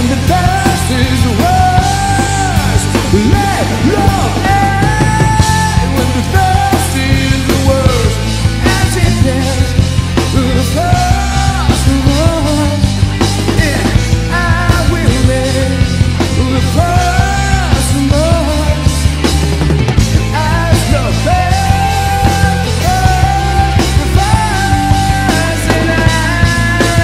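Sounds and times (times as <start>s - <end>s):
lead vocal singing: 0.0s - 27.0s
rock band playing live: 0.0s - 27.0s.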